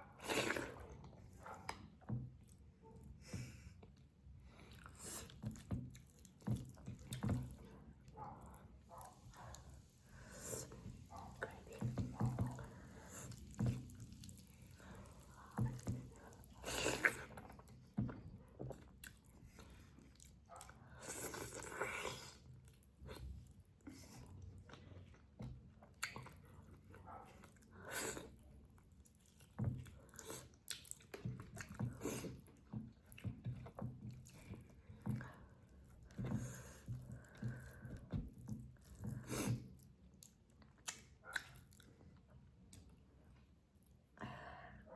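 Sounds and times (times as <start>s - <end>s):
wet chewing and smacking: 0.1s - 43.9s.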